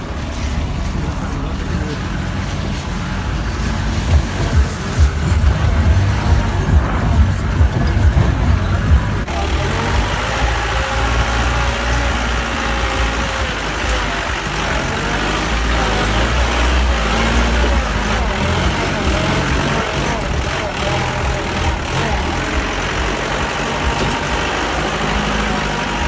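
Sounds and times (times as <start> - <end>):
engine knocking: 0.0 - 26.0
engine running: 0.0 - 26.0.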